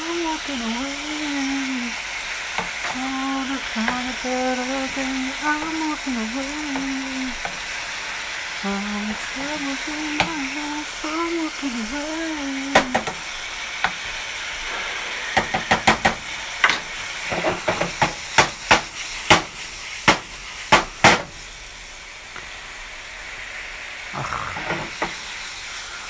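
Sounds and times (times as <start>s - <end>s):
steak sizzling in a frying pan: 0.0s - 26.0s.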